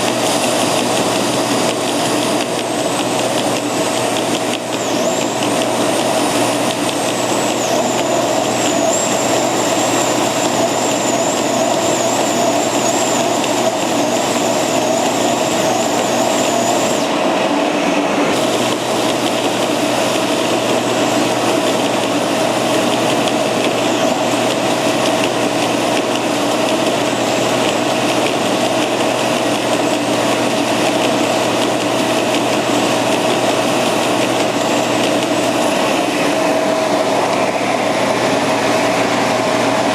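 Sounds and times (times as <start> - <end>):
edge sander running: 0.0 - 39.9.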